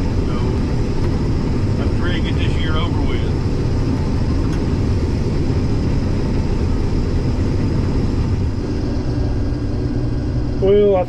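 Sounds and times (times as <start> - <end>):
combine harvester droning: 0.0 - 11.0
faint high whine: 0.0 - 11.0.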